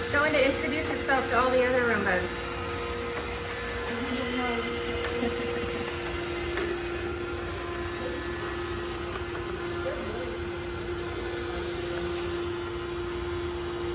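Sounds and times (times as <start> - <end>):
robot vacuum motor hum: 0.0 - 13.9.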